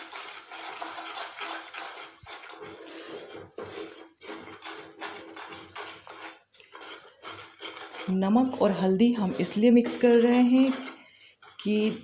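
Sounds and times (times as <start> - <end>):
spoon scraping thick paste in pan: 0.0 - 12.0.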